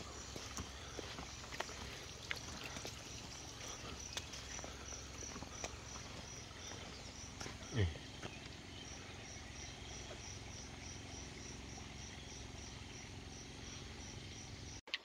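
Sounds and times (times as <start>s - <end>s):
insect chirping: 0.0s - 14.8s.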